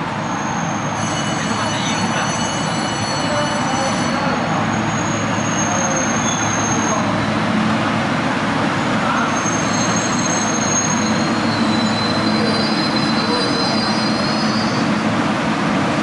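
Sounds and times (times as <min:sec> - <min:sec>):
high-pitched train whines: 0:00.0 - 0:07.6, 0:08.8 - 0:15.2
subway train rumbling: 0:00.0 - 0:16.0.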